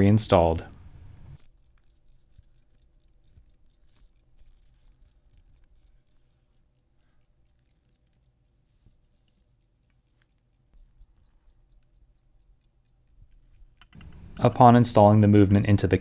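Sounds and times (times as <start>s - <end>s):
pocket watch ticking: 0.0s - 16.0s.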